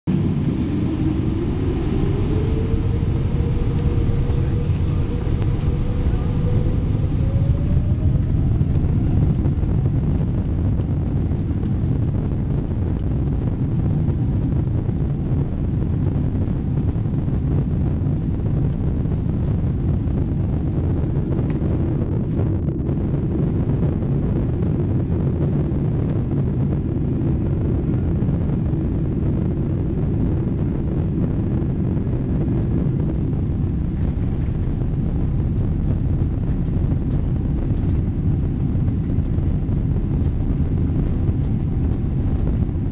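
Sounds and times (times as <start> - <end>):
jet engines rumbling: 0.0 - 42.9
jet engine whine rising: 0.1 - 42.9.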